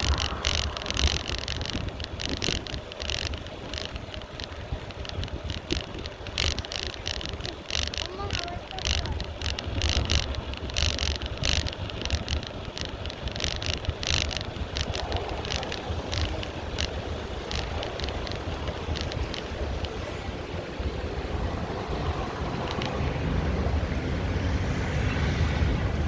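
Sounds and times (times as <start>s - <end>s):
bicycle rattles and clicks: 0.0s - 24.9s
wind rumble on microphone: 0.0s - 26.0s.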